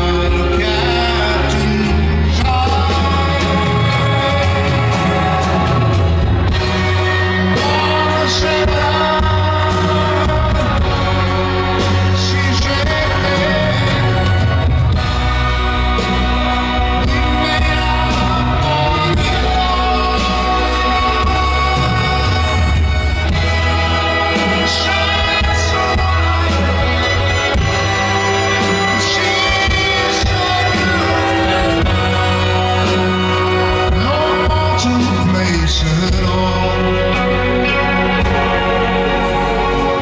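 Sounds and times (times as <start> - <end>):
choir singing: 0.0 - 34.9, 36.3 - 40.0
live rock band with orchestra: 0.0 - 40.0.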